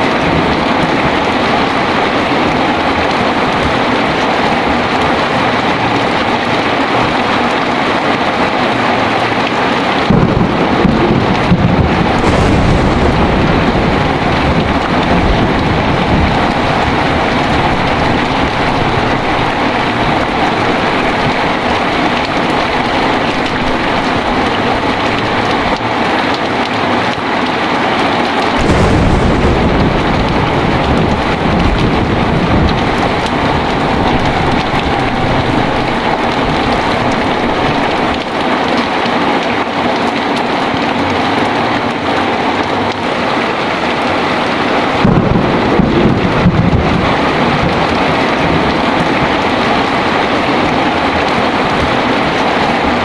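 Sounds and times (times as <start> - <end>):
thunder rumbling: 0.0 - 27.2, 28.3 - 53.0
heavy rain: 0.0 - 53.0.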